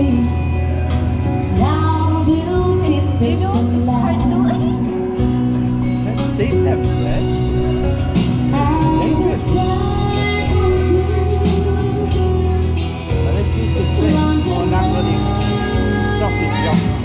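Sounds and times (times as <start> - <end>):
live pop music with singer: 0.0 - 17.0.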